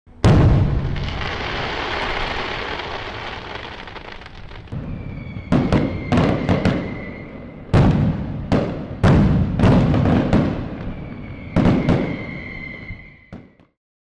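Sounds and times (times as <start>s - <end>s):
firework bangs: 0.1s - 13.6s
firework crackling: 0.2s - 13.6s
firework whistle: 0.3s - 8.6s, 9.6s - 13.8s.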